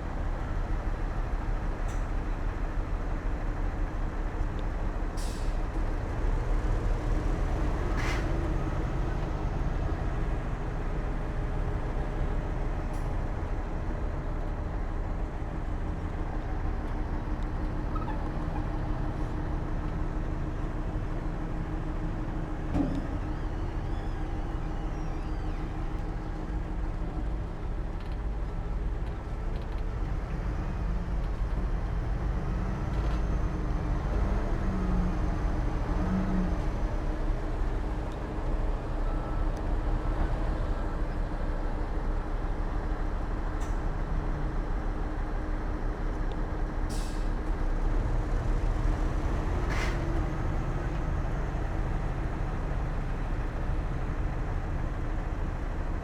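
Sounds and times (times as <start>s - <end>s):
heavy diesel machinery rumbling: 0.0s - 56.0s.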